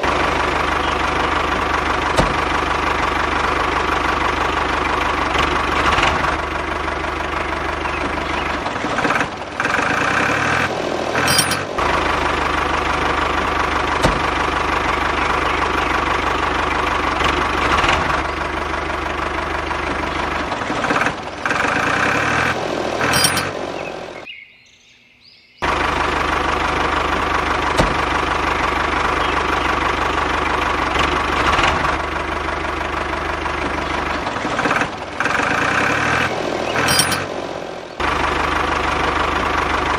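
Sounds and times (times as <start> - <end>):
toy backhoe engine drone: 0.0 - 24.3, 25.6 - 37.4.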